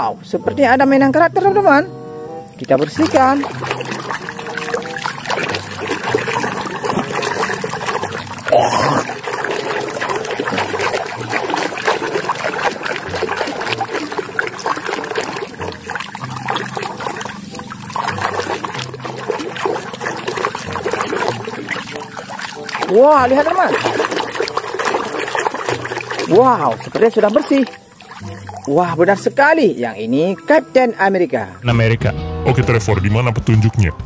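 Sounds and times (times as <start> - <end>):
water trickling and splashing: 2.4 - 31.6.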